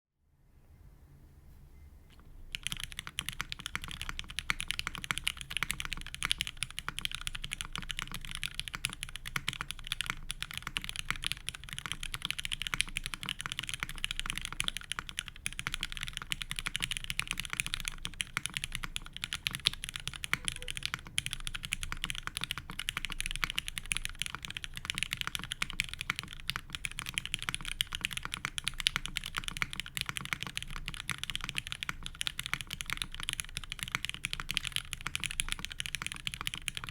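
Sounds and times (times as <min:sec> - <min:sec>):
mechanical keyboard typing: 0:02.5 - 0:36.9.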